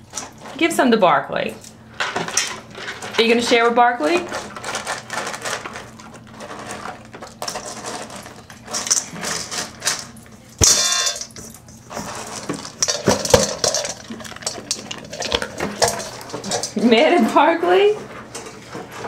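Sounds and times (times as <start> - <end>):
kibble rattling in a bowl: 1.9 - 19.0.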